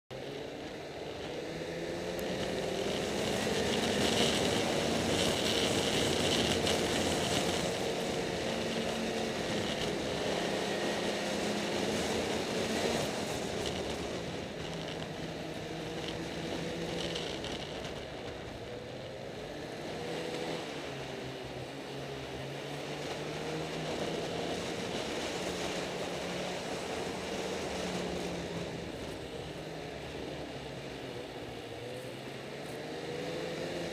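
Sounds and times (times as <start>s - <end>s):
snowmobile engine running: 0.1s - 33.9s.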